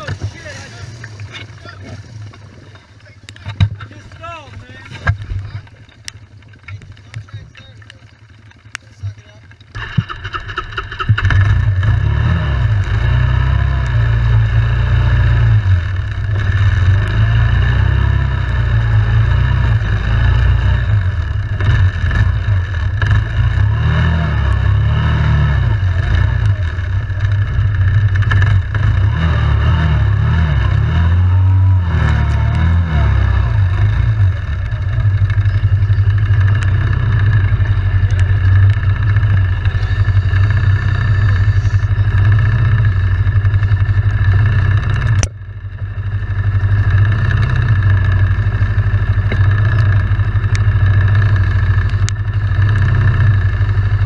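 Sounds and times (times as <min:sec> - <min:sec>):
atv engine revving: 0:00.0 - 0:02.3, 0:03.0 - 0:54.0.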